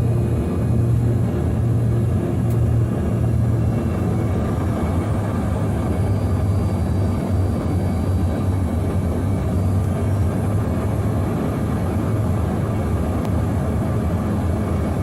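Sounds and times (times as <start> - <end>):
airliner engines rumbling: 0.0 - 15.0.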